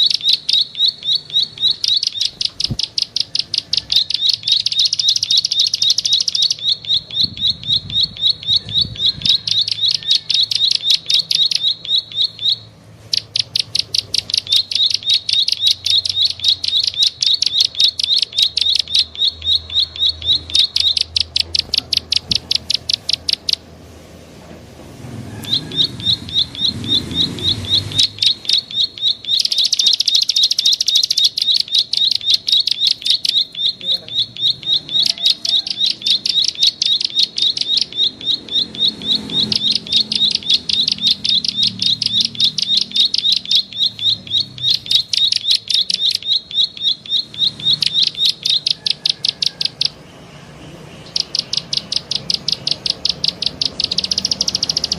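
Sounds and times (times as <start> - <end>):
bird lure call chirps: 0.0 - 23.7, 25.4 - 50.1, 50.9 - 54.9.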